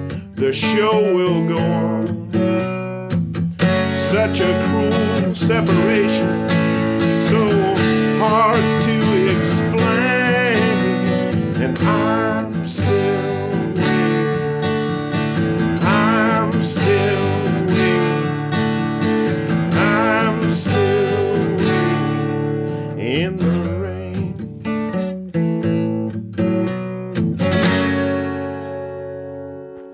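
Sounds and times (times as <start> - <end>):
acoustic guitar strumming: 0.0 - 29.9.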